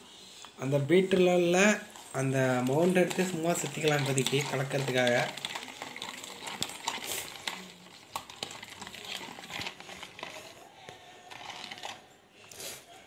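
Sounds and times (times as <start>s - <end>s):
whisk stirring liquid: 1.0s - 12.1s.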